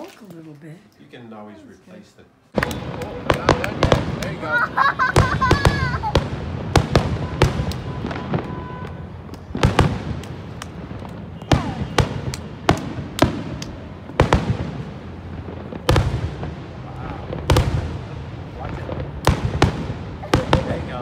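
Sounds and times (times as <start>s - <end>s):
fireworks bursting with bangs: 2.5s - 21.0s
rumbling echo: 2.6s - 21.0s.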